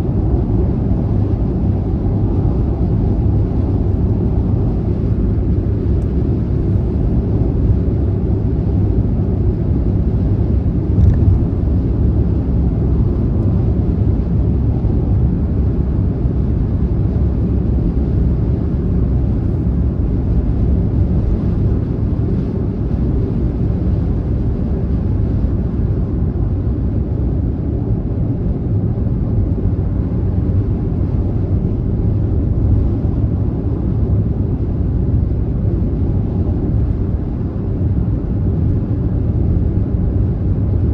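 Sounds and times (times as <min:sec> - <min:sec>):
car driving on highway: 0:00.0 - 0:40.9.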